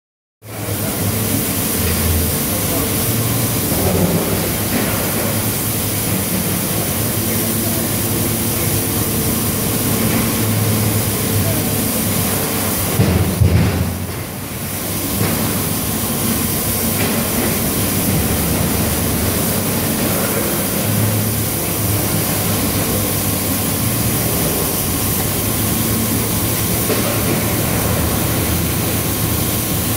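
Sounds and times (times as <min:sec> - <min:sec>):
injection moulding machine hum: 0:00.4 - 0:29.9.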